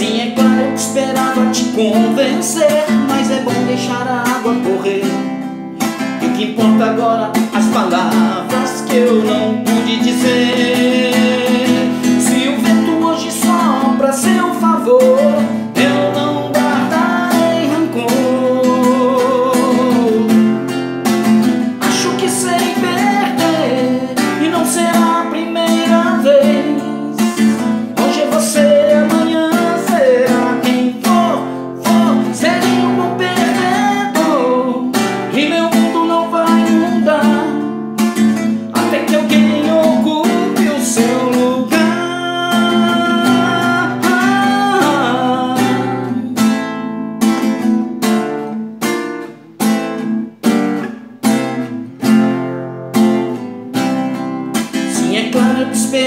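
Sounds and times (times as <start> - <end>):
man singing a ballad: 0.0 - 20.7, 21.6 - 47.5, 54.7 - 56.0
guitar strummed chords: 0.0 - 56.0.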